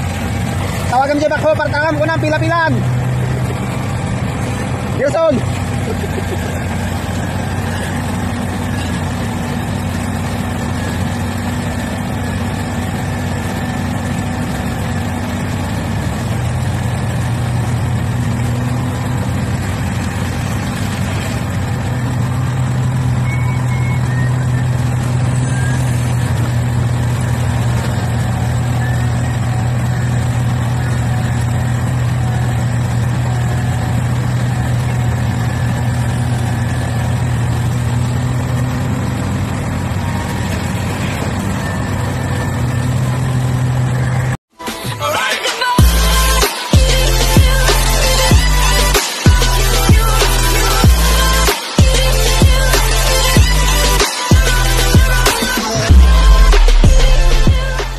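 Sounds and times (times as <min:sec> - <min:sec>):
heavy diesel engines droning: 0:00.0 - 0:57.9.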